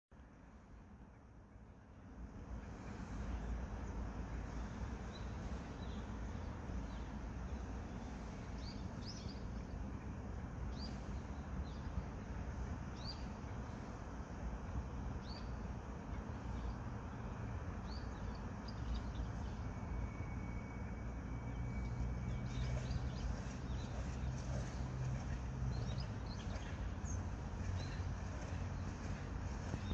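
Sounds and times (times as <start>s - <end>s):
low outdoor rumble: 0.1s - 29.9s.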